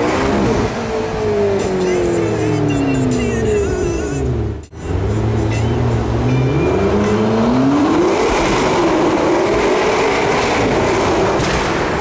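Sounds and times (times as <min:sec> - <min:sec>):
engine accelerating hard: 0:00.0 - 0:12.0.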